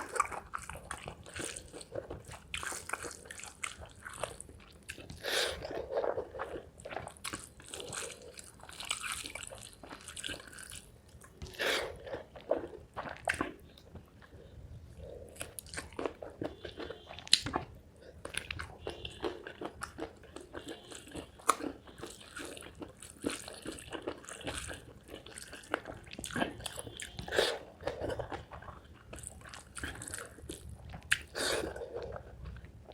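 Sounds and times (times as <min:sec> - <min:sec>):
wet chewing and crunching: 0:00.0 - 0:32.9.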